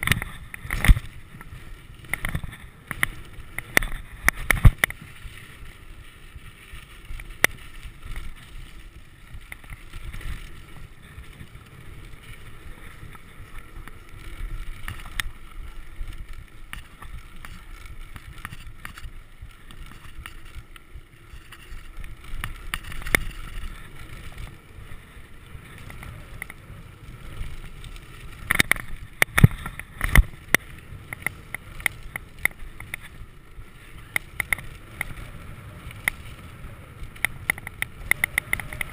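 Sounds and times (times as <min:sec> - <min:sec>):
bike clicks and rattles: 0:00.0 - 0:38.9
bike tyres rumbling on dirt: 0:00.0 - 0:38.9.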